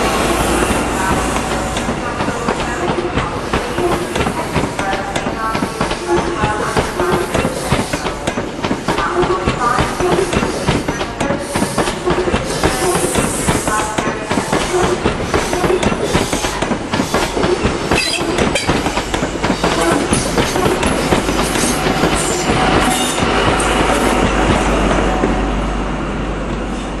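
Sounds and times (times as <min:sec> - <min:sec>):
train wheels clicking over rail joints: 0:00.0 - 0:25.4.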